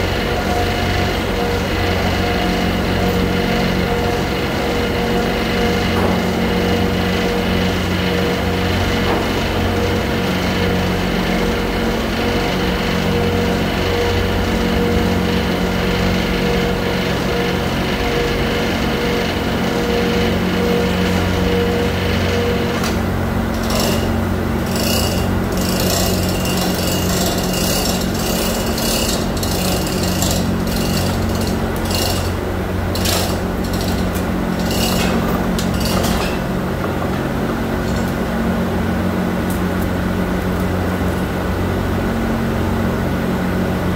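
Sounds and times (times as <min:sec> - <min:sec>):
electric chain hoist running: 0:00.0 - 0:38.6
factory machinery drone: 0:00.0 - 0:43.9.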